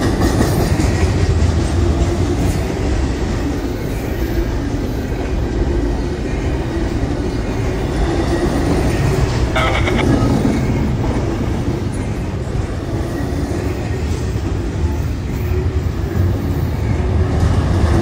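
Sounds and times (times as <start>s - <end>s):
freight train wheels rumbling on rail: 0.0s - 18.0s.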